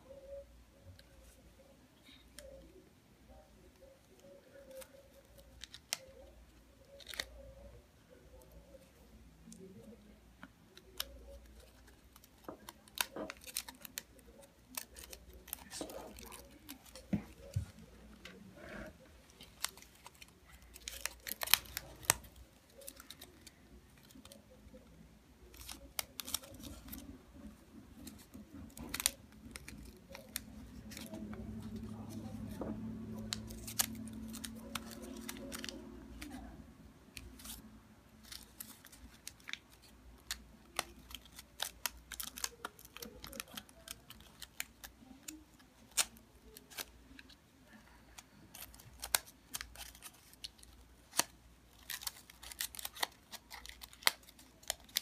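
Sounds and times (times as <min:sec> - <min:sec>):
faint low hum: 0:00.0 - 0:55.0
paper rustling and crinkling: 0:10.7 - 0:55.0.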